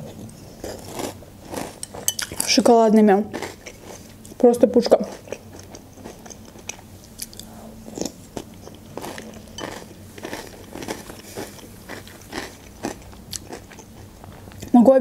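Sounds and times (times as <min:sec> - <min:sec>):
chewing crunchy cereal: 0:00.2 - 0:02.6, 0:03.3 - 0:04.4, 0:05.0 - 0:14.7.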